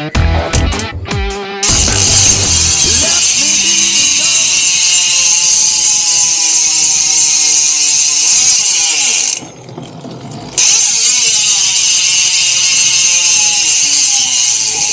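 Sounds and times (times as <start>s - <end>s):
bicycle freehub buzzing: 1.6s - 14.9s.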